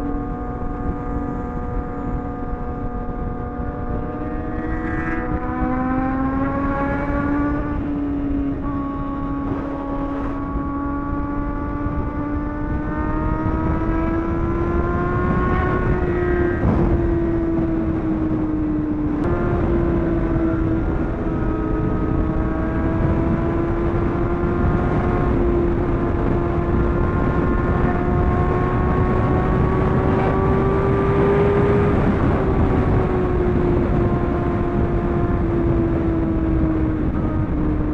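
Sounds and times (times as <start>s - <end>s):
motorcycle engine at high revs: 0.0s - 37.9s
wind rush on microphone: 0.0s - 37.9s.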